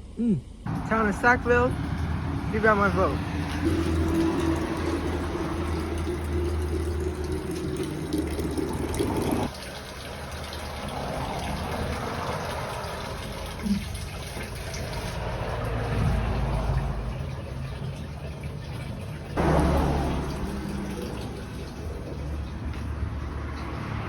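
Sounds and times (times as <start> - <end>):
tap water filling container: 0.7 - 24.0.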